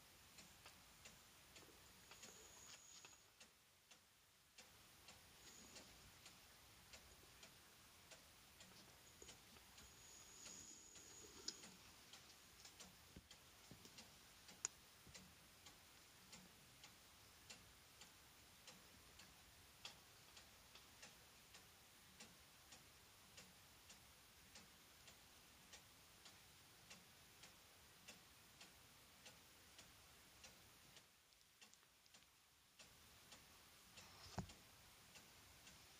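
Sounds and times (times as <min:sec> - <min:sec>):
clock ticking: 0:00.0 - 0:35.9.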